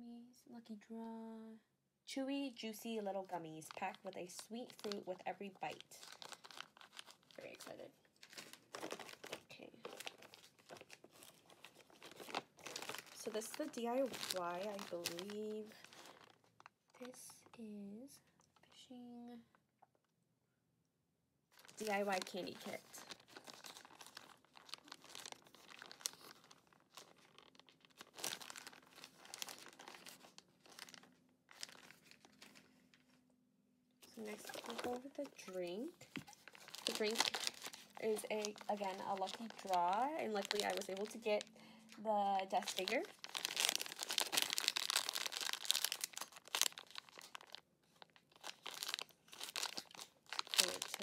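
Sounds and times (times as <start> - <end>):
plastic packets crinkling: 3.0 - 17.4, 21.6 - 33.2, 34.0 - 51.0.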